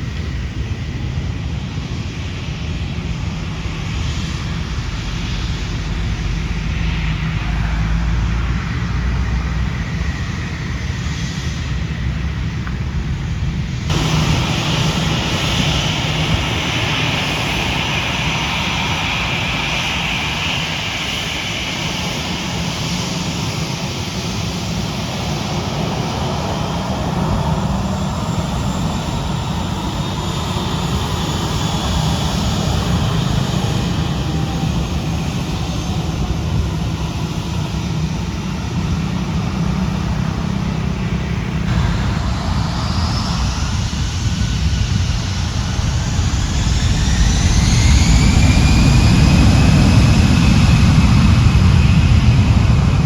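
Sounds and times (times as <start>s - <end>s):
high engine whine: 0.0s - 53.0s
jet engines roaring: 0.0s - 53.0s.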